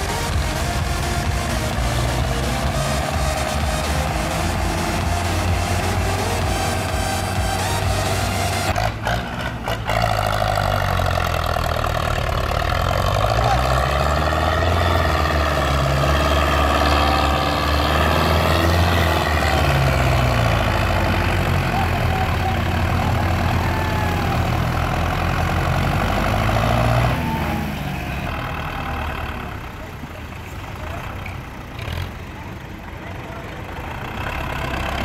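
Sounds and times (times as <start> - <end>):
tractor diesel engine labouring: 0.0 - 35.0.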